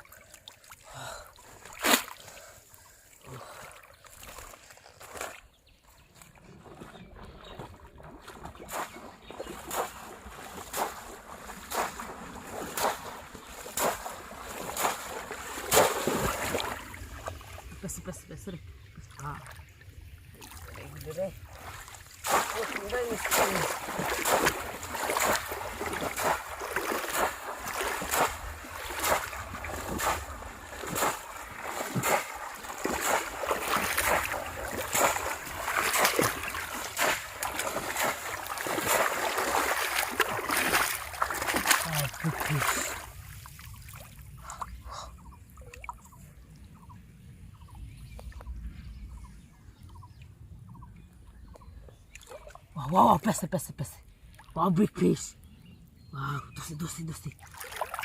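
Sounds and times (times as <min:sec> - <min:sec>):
splashing in shallow water: 0:00.0 - 0:46.9, 0:51.4 - 0:53.4, 0:54.2 - 0:55.5, 0:56.2 - 0:58.0.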